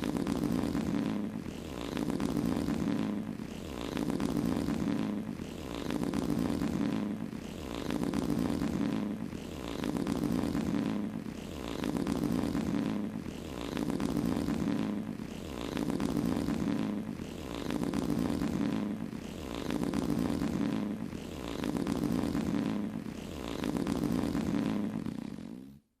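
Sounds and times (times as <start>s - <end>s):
buzzing fart sound effect: 0.0s - 26.0s.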